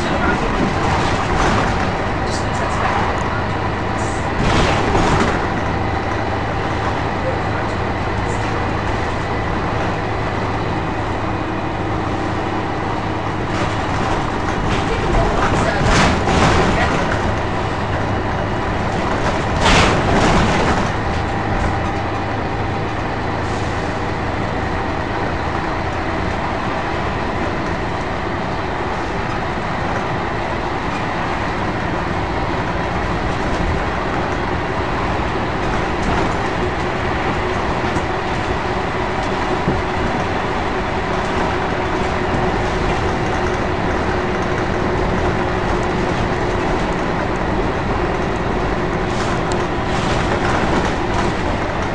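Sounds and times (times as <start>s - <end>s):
bus diesel engine droning: 0.0s - 51.9s.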